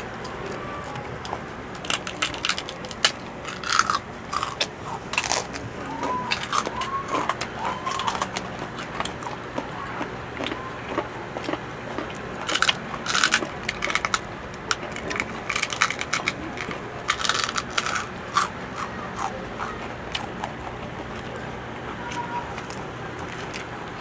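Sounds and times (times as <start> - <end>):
crunchy food chewing: 0.2 - 24.0.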